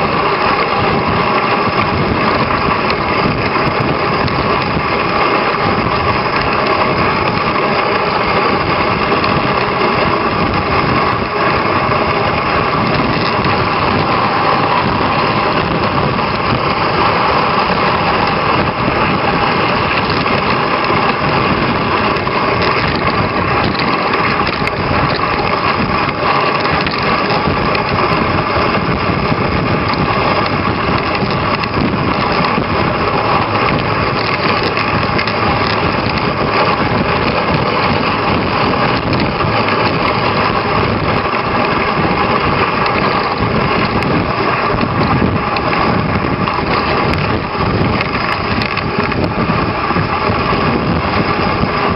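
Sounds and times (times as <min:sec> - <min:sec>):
dog sled running over snow: 0:00.0 - 0:51.9.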